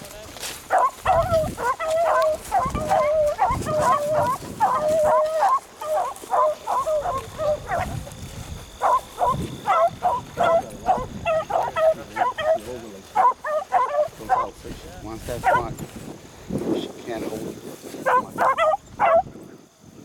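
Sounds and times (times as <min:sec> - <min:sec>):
hounds baying: 0:00.4 - 0:15.8, 0:18.0 - 0:19.5.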